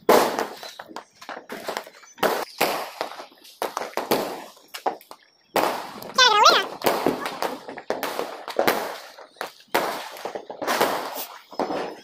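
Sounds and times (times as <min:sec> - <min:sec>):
firecrackers banging: 0:00.0 - 0:12.0.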